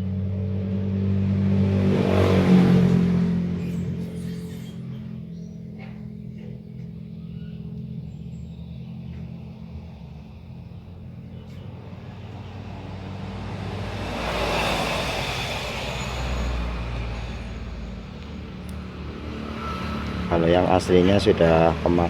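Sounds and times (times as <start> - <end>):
steady low hum: 0.0 - 21.0
road vehicle passing: 0.0 - 22.0.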